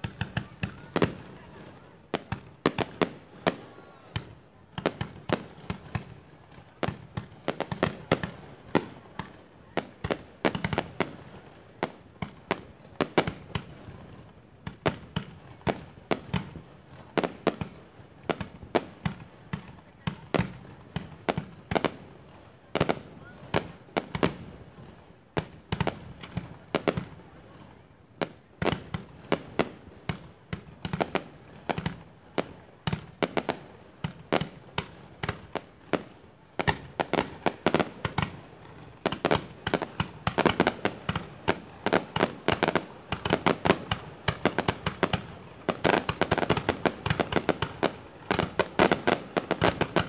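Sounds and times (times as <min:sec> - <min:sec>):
fireworks bangs and pops: 0:00.0 - 0:50.0.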